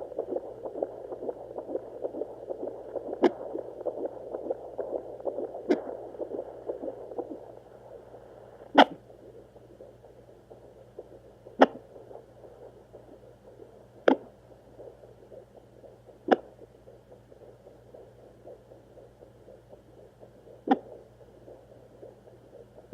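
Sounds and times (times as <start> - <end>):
fast whooshing heartbeat: 0.0 - 22.9.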